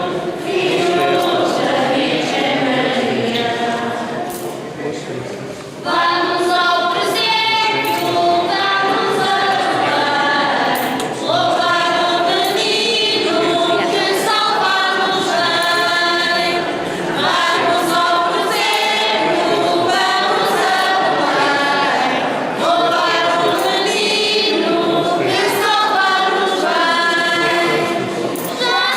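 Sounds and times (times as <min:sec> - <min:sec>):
choir singing a hymn: 0:00.0 - 0:05.0, 0:05.7 - 0:28.9.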